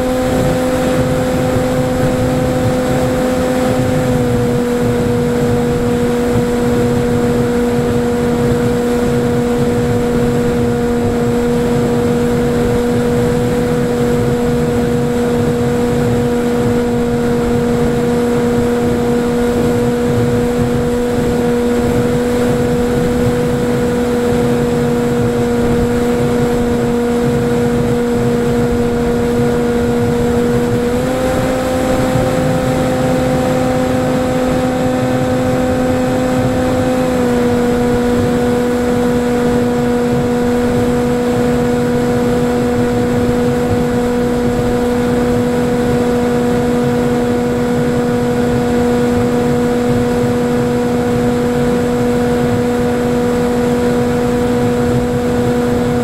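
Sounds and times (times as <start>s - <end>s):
electric motor droning whine: 0.0s - 56.0s
wind rush: 0.0s - 56.0s.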